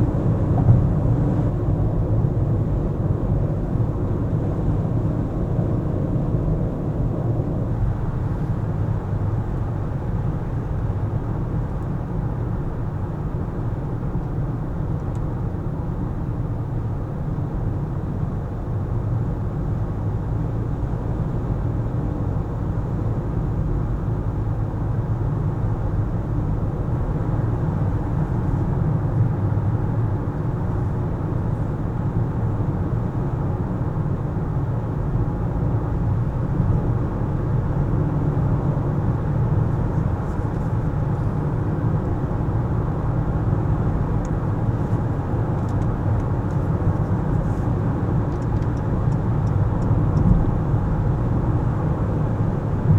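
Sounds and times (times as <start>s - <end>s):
car engine and road rumble: 0.0s - 52.9s.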